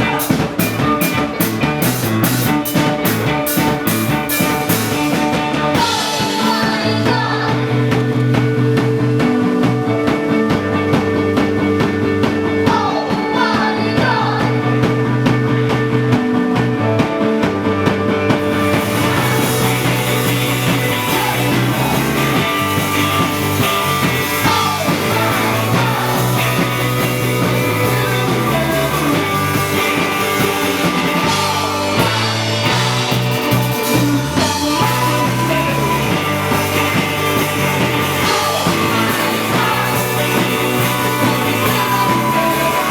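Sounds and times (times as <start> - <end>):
rock music with singing: 0.0 - 42.9.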